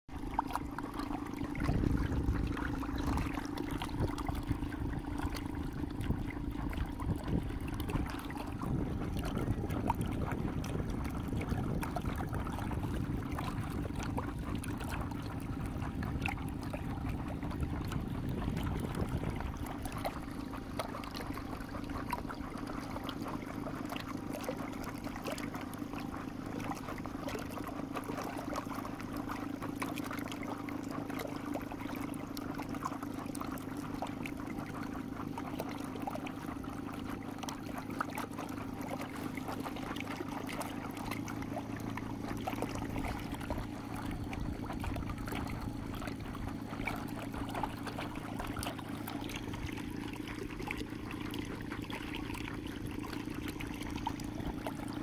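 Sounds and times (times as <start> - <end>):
outboard motor humming: 0.1 - 55.0
water splashing along hull: 0.1 - 55.0.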